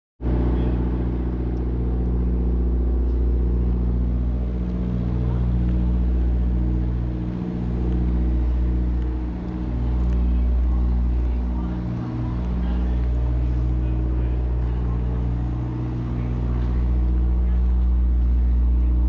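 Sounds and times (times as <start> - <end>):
engine idling: 0.2 - 19.0.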